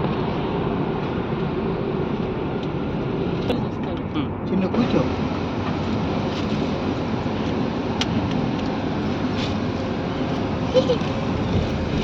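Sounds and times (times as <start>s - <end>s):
road noise rushing: 0.0s - 12.0s.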